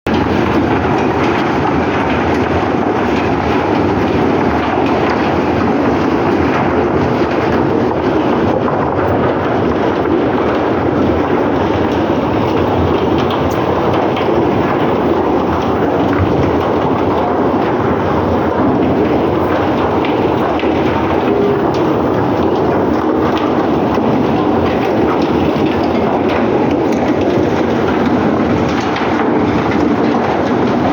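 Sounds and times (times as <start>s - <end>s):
faint clatter: 0.1s - 30.9s
machinery rumbling: 0.1s - 30.9s.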